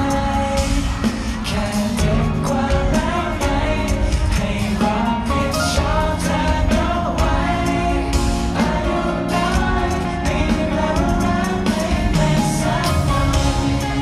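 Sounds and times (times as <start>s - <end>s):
men singing pop song: 0.0s - 14.0s
pop backing track with beat: 0.0s - 14.0s.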